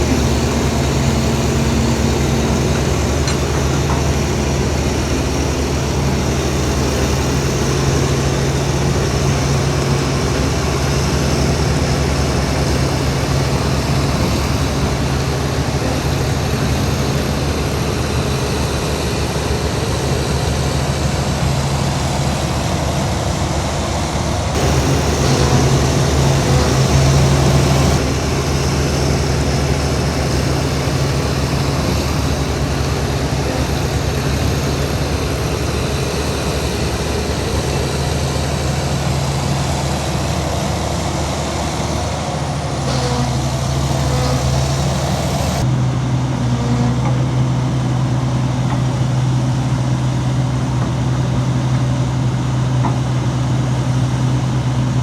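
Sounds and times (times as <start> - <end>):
heavy diesel engines under load: 0.0 - 55.0.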